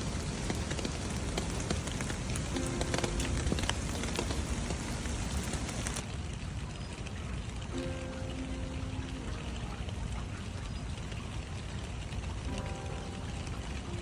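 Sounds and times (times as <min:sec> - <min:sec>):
rain drops ticking on a surface: 0:00.0 - 0:14.0
soft held music notes: 0:02.4 - 0:14.0.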